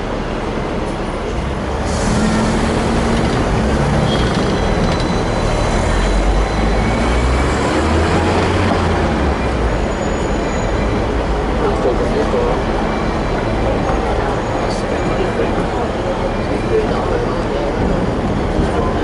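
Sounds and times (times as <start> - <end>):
city traffic: 0.0 - 19.0
tram motors and wheels rumbling: 0.0 - 19.0.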